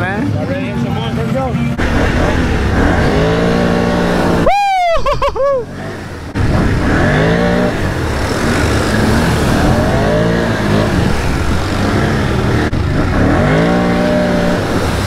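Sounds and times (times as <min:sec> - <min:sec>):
quad bike engine revving: 0:01.7 - 0:15.0.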